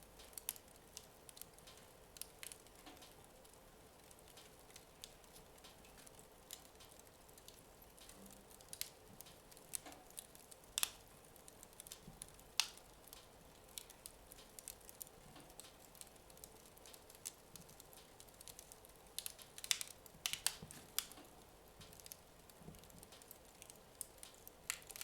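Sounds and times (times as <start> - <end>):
fire crackling softly: 0.0 - 25.0.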